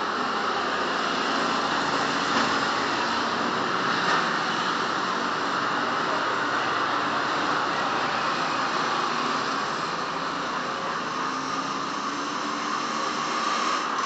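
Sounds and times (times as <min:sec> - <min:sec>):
small motorbikes passing: 0:00.0 - 0:14.0
street noise hiss: 0:00.0 - 0:14.0.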